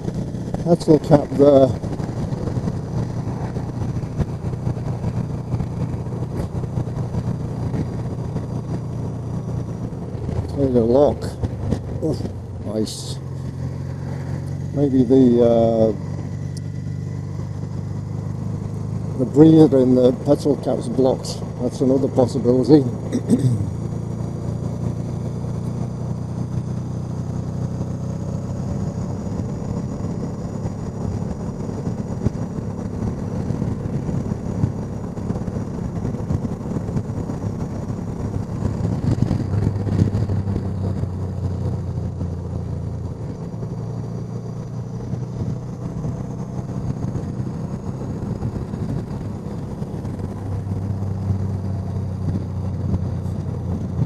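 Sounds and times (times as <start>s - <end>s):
wind rush on microphone: 0.0s - 21.6s, 22.8s - 54.0s
motorcycle engine running: 0.0s - 54.0s.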